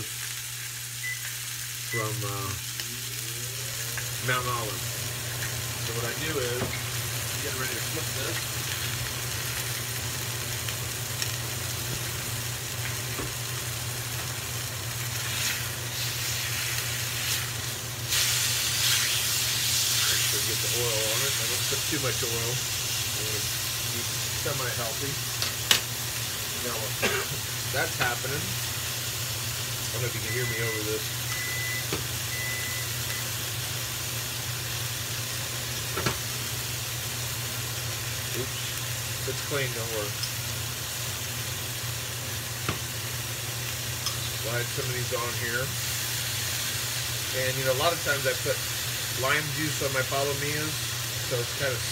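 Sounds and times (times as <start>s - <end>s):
steak sizzling in hot oil: 0.0s - 51.9s.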